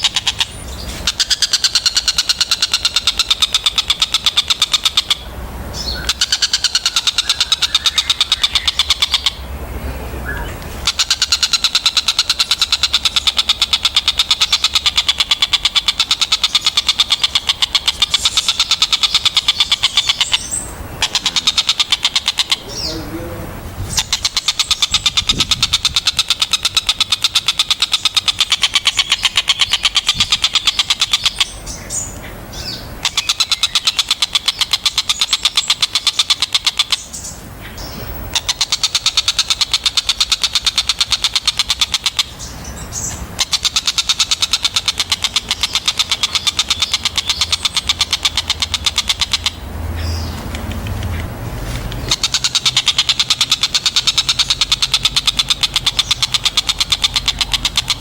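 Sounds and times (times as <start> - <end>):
kingfisher rattling call: 0.0 - 9.5, 10.2 - 58.0.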